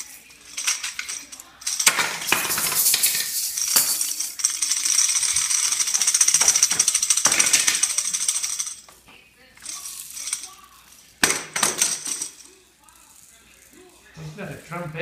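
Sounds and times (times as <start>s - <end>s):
toy rattle shaken rapidly: 0.0s - 8.9s, 9.6s - 14.1s.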